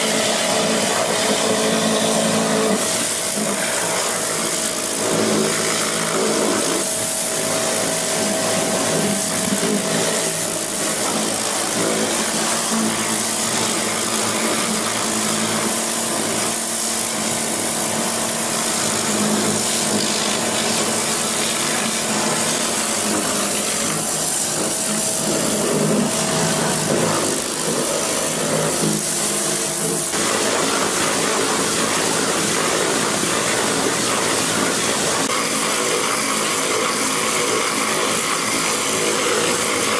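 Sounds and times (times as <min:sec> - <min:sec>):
machine hum: 0:00.0 - 0:39.9
pressure washer water hiss: 0:00.0 - 0:39.9.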